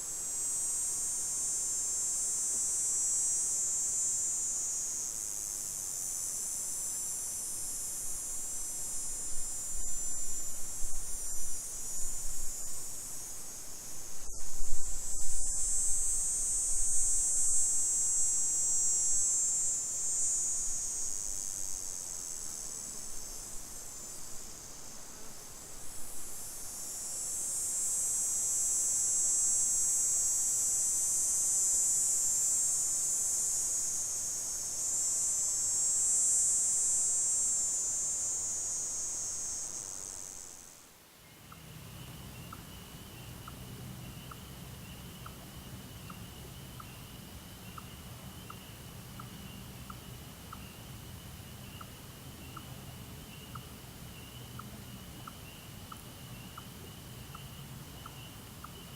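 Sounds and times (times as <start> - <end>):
insect chorus chirring: 0.0 - 58.9.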